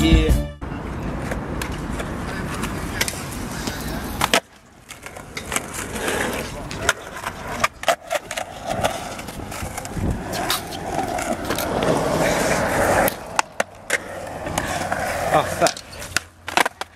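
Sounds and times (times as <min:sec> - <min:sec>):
skateboard wheels rolling on concrete: 0:00.6 - 0:16.9
skateboard clacking on ground: 0:01.0 - 0:16.9.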